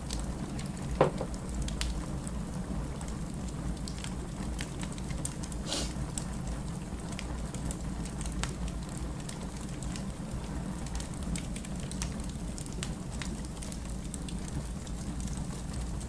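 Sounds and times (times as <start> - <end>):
firewood crackling and popping: 0.0 - 16.0
low fire rumble: 0.0 - 16.0.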